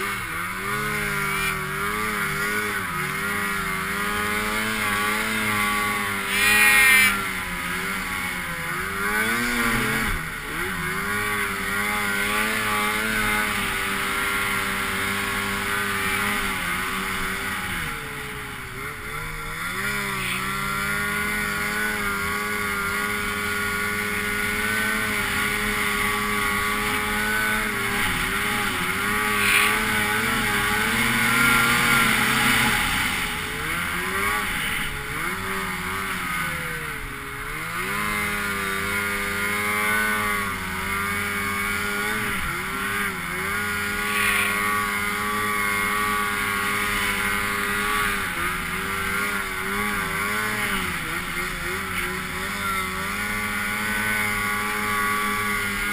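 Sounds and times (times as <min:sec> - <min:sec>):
snowmobile engine running: 0:00.0 - 0:55.9.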